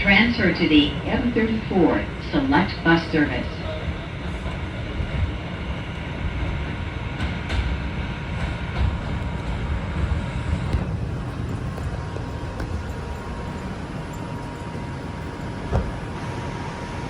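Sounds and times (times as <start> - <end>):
subway car rumble: 0.0 - 17.0.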